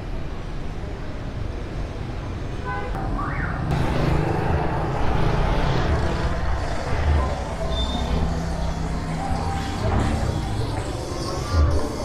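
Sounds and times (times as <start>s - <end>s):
vehicle engines passing: 1.4s - 12.0s.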